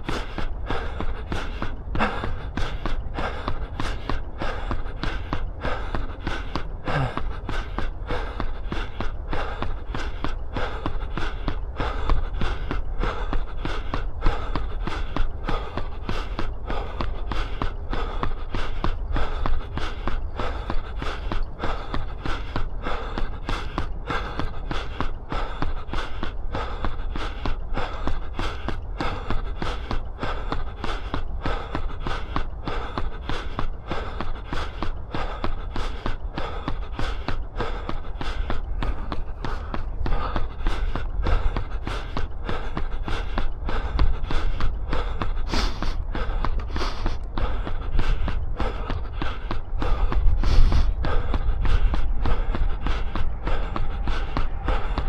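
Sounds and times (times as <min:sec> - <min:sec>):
hard breathing: 0:00.0 - 0:55.0
low rumble: 0:00.0 - 0:55.0
running footfalls: 0:00.0 - 0:55.0
wind on microphone: 0:00.0 - 0:55.0.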